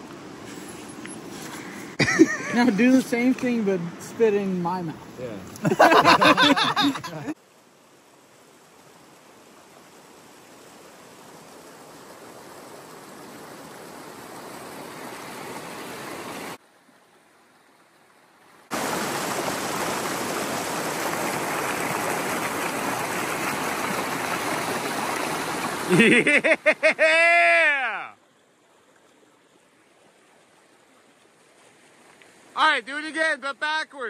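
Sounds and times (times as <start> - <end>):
rushing creek whitewater: 0.0 - 34.0.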